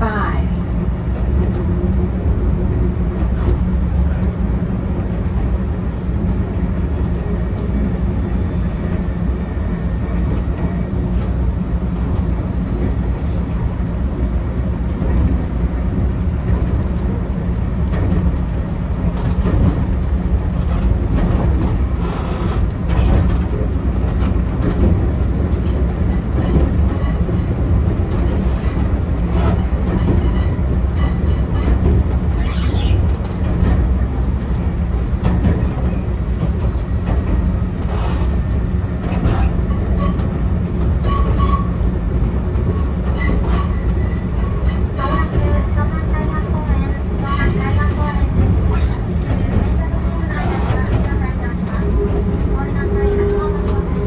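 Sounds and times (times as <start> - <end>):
electric train rumbling: 0.0 - 54.0
train clicks and knocks: 0.0 - 54.0.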